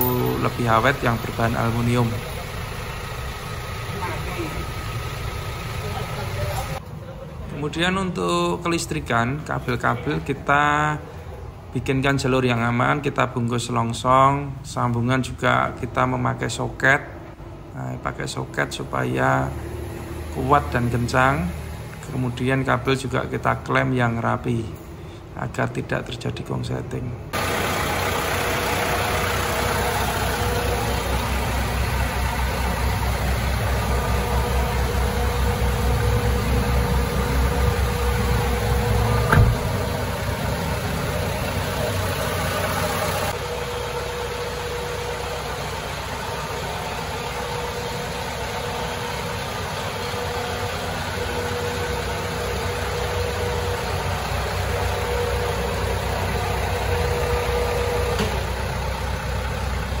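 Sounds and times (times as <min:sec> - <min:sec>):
diesel truck engine idling: 0:00.0 - 1:00.0.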